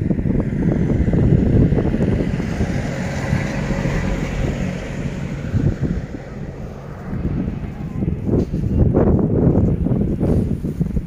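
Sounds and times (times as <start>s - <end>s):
vehicle passing: 0.0s - 10.0s
wind buffeting microphone: 0.0s - 11.0s.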